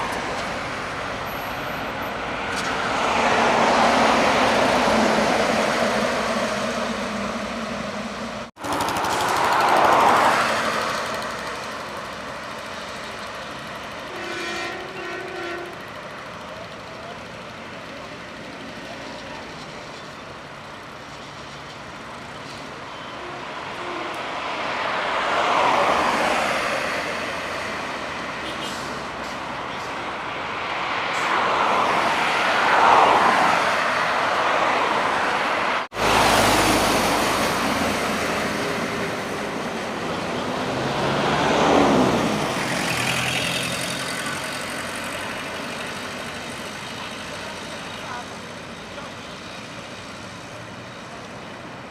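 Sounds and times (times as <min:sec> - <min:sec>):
highway traffic passing: 0:00.0 - 0:51.9.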